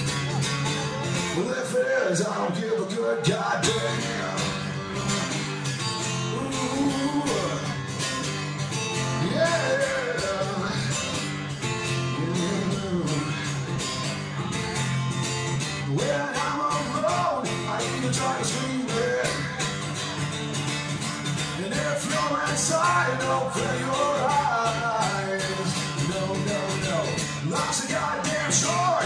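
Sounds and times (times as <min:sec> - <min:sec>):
man singing: 0:00.0 - 0:08.2, 0:08.9 - 0:14.1, 0:15.6 - 0:20.2, 0:21.4 - 0:29.0
strummed acoustic guitar: 0:00.0 - 0:29.0.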